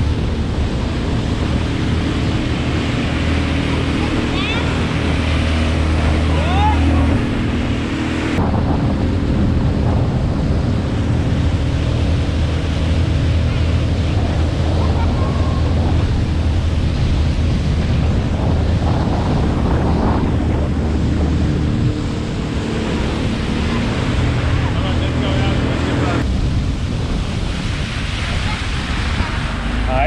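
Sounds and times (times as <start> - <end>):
jet ski engine drone: 0.0 - 30.0
water spray rushing: 0.0 - 30.0
wind buffeting microphone: 0.0 - 30.0.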